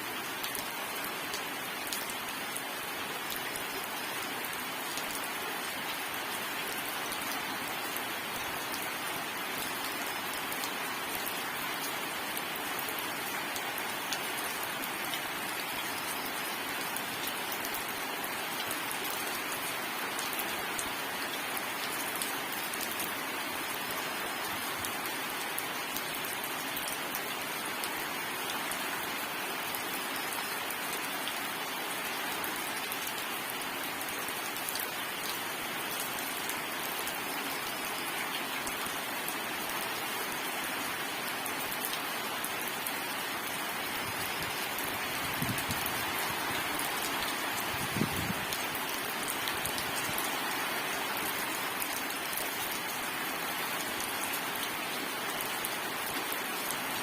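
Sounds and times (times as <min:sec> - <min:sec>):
steady rain with drop ticks: 0:00.0 - 0:57.0.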